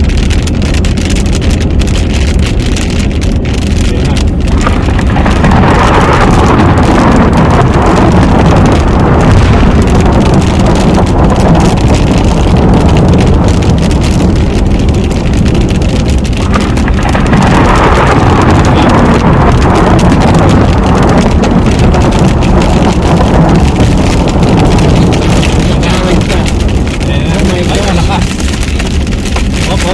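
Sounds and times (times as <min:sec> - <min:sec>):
heavy rain on car roof: 0:00.0 - 0:29.9
low rumble of car on road: 0:00.0 - 0:29.9.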